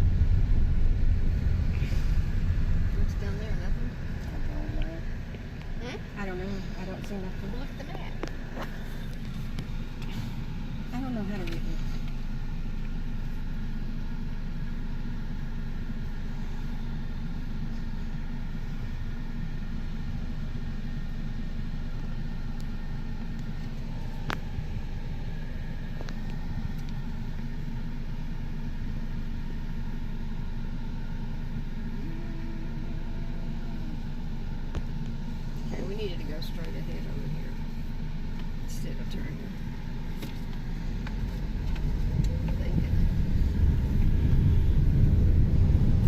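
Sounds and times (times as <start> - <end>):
car driving from inside cabin: 0.0 - 46.0.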